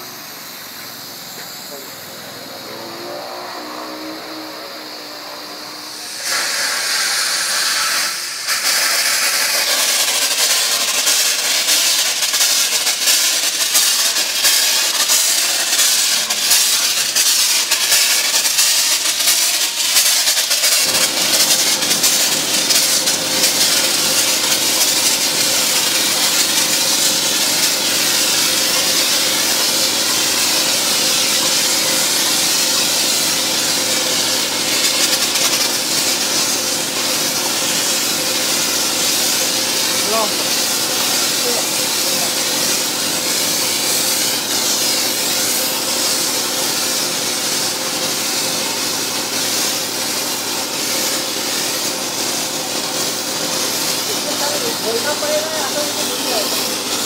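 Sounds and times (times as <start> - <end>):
foam spray gun hissing: 0.0 - 57.0.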